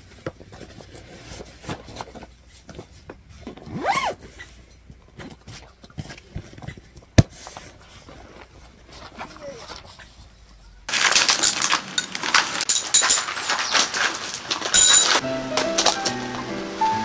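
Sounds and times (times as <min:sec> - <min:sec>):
rustling and clicking of handling: 0:00.0 - 0:16.5.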